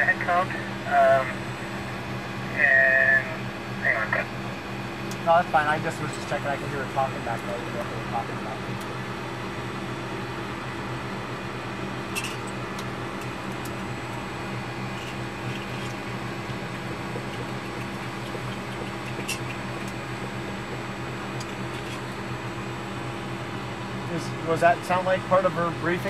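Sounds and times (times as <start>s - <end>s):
fans and electrical equipment humming: 0.0s - 26.0s.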